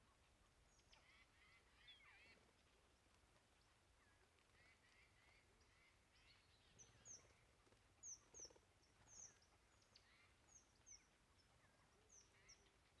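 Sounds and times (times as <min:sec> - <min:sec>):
songbirds chipping: 0:00.0 - 0:13.0.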